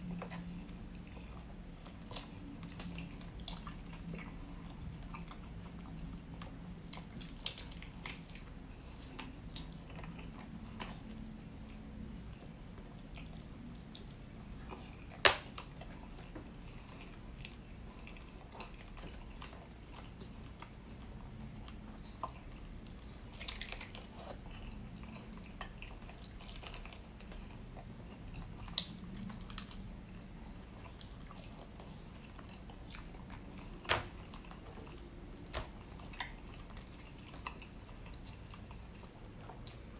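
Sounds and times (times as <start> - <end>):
chewing and wet mouth smacks: 0.0 - 39.9.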